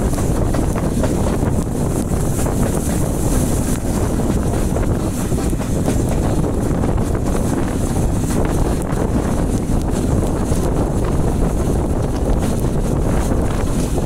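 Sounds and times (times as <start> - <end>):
train running noise: 0.0 - 14.0
wind buffeting microphone: 0.0 - 14.0.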